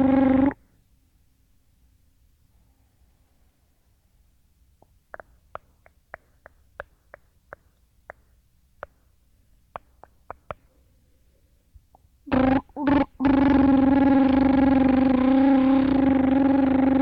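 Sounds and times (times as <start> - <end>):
tape hiss and hum: 0.0 - 17.0.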